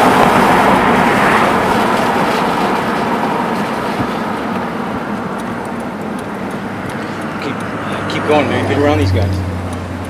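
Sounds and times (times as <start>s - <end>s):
road noise inside car: 0.0s - 10.0s.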